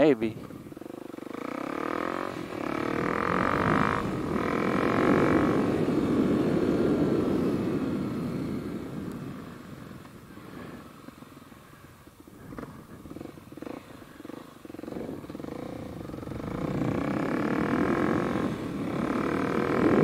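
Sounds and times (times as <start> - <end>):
motorcycle engine: 0.0 - 20.0.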